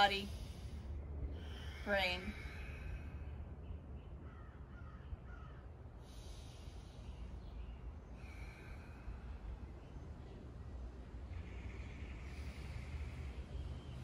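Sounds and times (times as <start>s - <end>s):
low steady rumble: 0.0s - 14.0s
faint bird calls: 1.3s - 10.4s, 11.2s - 14.0s.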